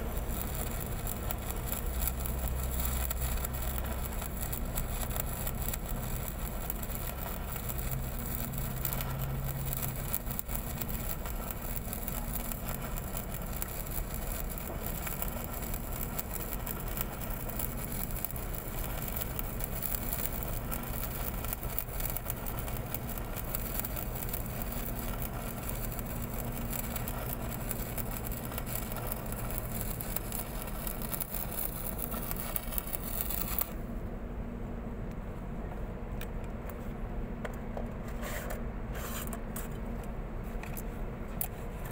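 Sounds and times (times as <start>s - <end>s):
welding arc crackling and hissing: 0.0s - 33.9s.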